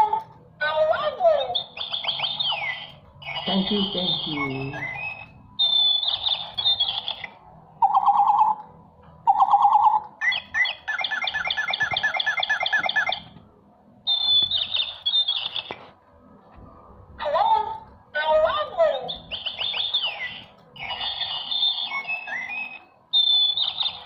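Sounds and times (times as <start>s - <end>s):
toy bird chirping: 0.0s - 8.6s, 9.2s - 13.3s, 14.0s - 15.8s, 17.2s - 24.0s.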